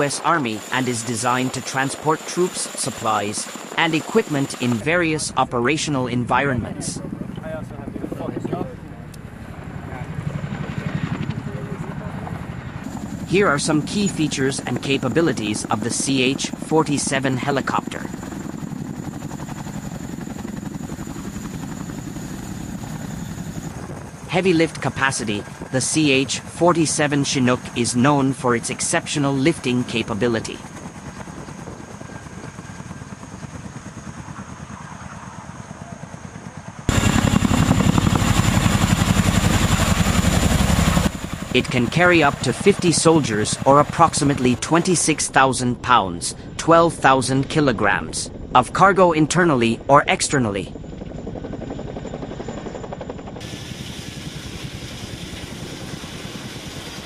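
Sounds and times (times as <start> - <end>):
turbine noise: 0.0 - 10.3, 12.8 - 19.7, 20.3 - 35.5, 36.7 - 57.0
helicopter rotor beat: 0.0 - 57.0.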